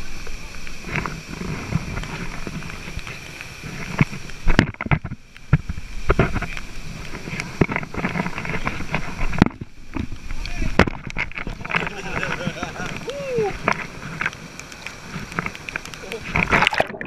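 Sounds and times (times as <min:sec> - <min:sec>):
waterfall rushing: 0:00.0 - 0:04.6, 0:05.2 - 0:17.0
water knocks and splashes: 0:00.6 - 0:17.0.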